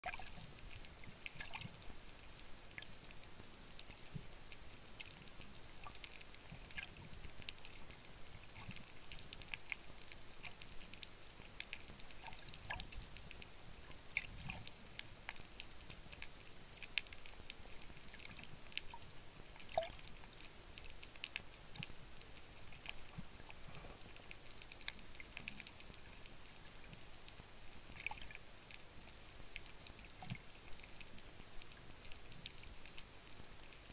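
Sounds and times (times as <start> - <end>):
low hiss: 0.0 - 33.9
underwater crackling clicks: 0.0 - 33.9.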